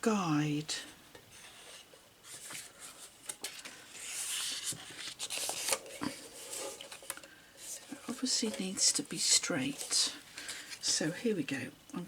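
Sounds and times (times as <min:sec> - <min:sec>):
paper rustling: 0:01.4 - 0:11.0.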